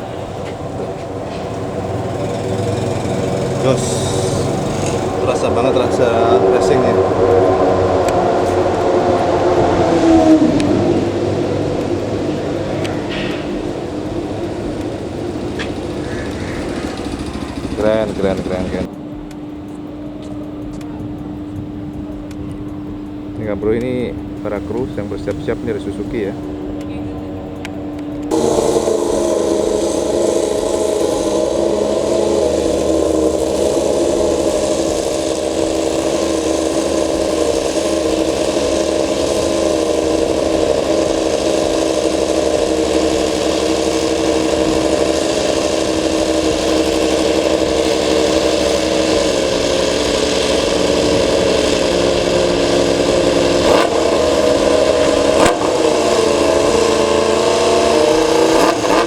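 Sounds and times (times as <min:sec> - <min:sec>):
motorcycle engine at high idle: 0:00.0 - 0:59.0
motorcycle throttle blips: 0:00.0 - 0:59.0.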